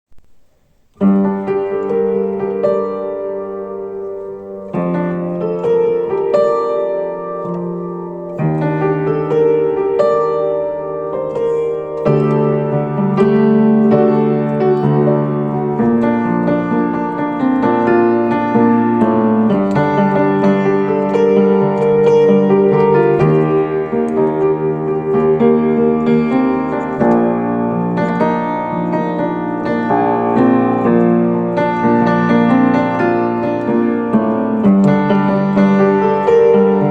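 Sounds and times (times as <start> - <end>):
piano playing slow chords: 0.2 - 36.9.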